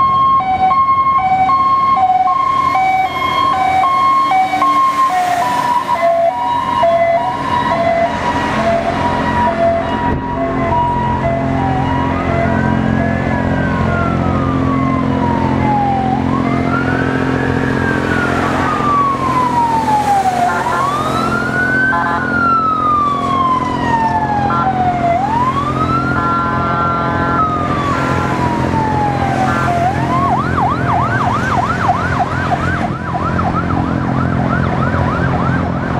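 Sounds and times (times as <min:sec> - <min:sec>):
fire truck sirens wailing: 0:00.0 - 0:35.9
siren yelping: 0:00.0 - 0:35.9
truck engines and traffic rumble: 0:00.0 - 0:35.9.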